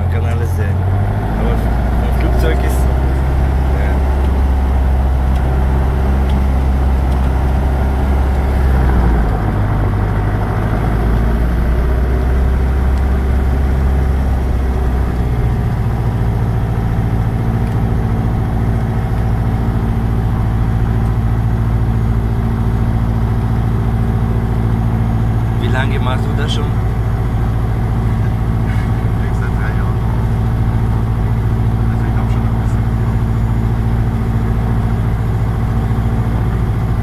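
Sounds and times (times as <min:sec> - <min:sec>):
light aircraft piston engine: 0:00.0 - 0:37.0.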